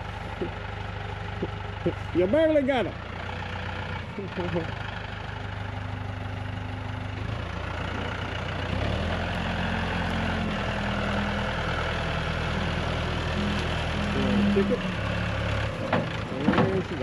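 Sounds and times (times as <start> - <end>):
vehicle engine idling and revving: 0.0 - 17.0.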